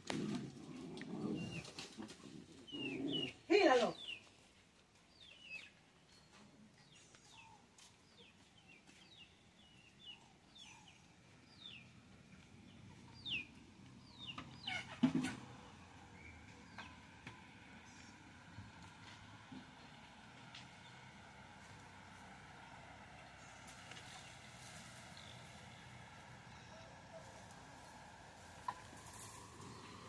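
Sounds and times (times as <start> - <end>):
birds chirping: 1.2 - 18.8, 22.7 - 30.0.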